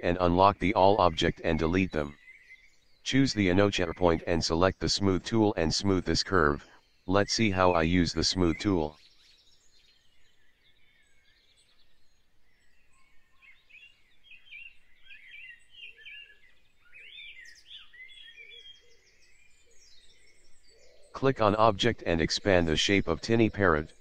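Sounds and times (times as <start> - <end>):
faint bird chirps: 0.0 - 24.0.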